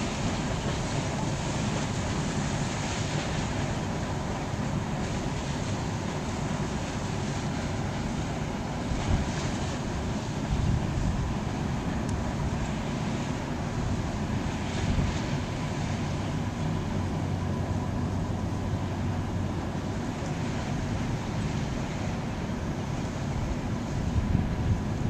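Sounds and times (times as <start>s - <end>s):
ship machinery droning: 0.0s - 25.0s
wind rumbling on microphone: 0.0s - 25.0s.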